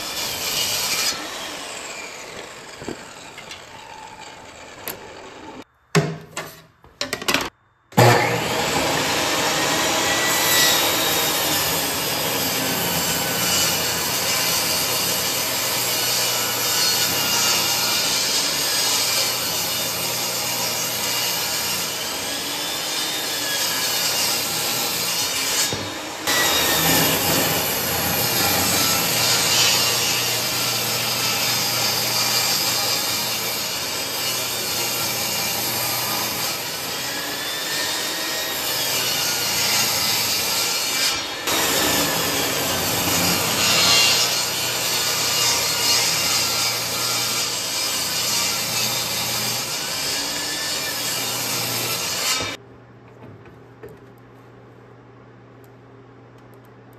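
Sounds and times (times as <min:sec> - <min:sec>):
table saw cutting wood: 0:00.0 - 0:05.6, 0:08.0 - 0:52.6.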